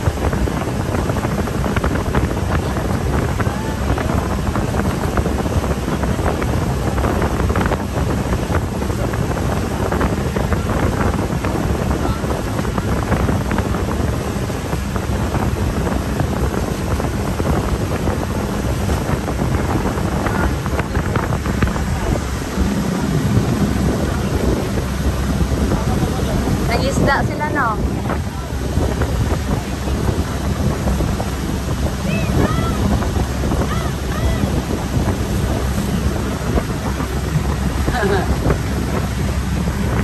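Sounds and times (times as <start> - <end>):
boat engine running: 0.0 - 40.0
wind on microphone: 0.0 - 40.0.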